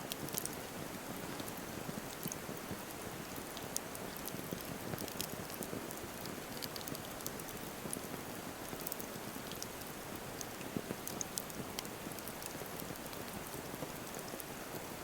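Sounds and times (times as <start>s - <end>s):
fire crackles and pops: 0.0s - 15.0s.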